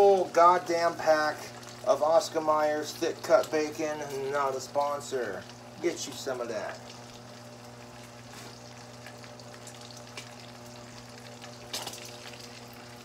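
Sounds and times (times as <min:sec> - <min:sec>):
bacon sizzling in a frying pan: 0:00.0 - 0:13.0.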